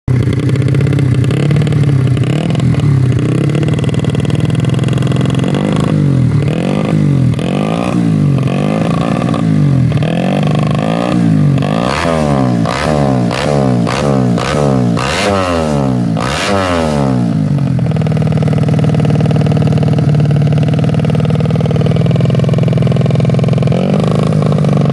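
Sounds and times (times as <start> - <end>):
motorcycle engine idling: 0.1 - 24.9
motorcycle throttle blips: 0.1 - 24.9.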